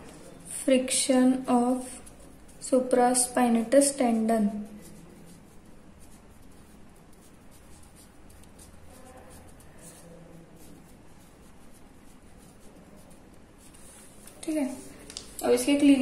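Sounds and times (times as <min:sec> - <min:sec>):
pen scratching on paper: 0:00.8 - 0:14.8.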